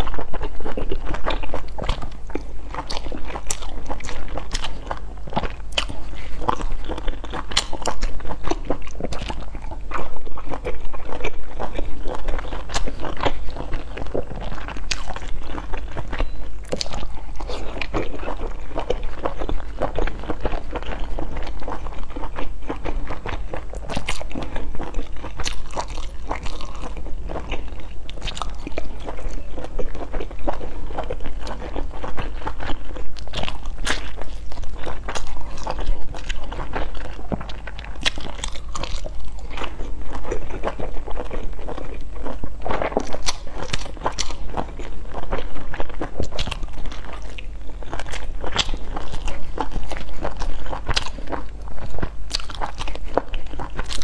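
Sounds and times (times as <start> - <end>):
person biting and chewing: 0.0 - 54.0.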